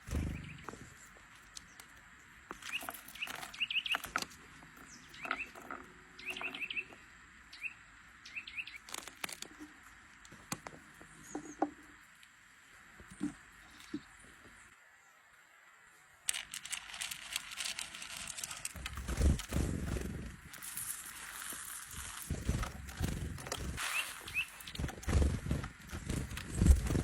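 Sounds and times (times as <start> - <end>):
small bird chirping: 0.0 - 9.8, 13.2 - 14.7, 16.8 - 27.0.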